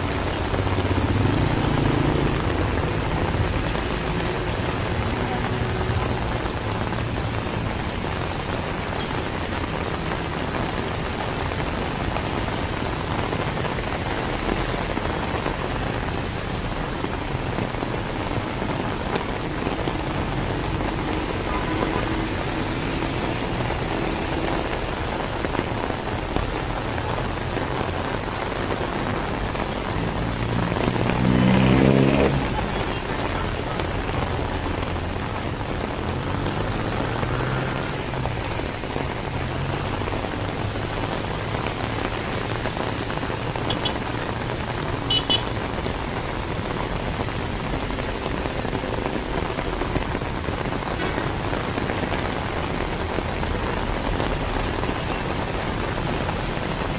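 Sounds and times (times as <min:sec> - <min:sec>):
vehicle passing: 0:00.0 - 0:08.9, 0:09.6 - 0:56.9
heavy rain on street: 0:00.0 - 0:56.9.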